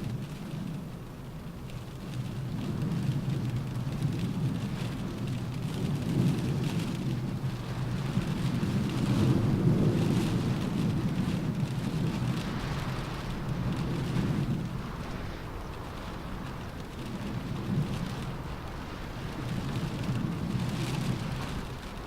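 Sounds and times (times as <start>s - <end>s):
low wind rumble: 0.0s - 22.0s
rain on a car roof: 0.0s - 22.0s.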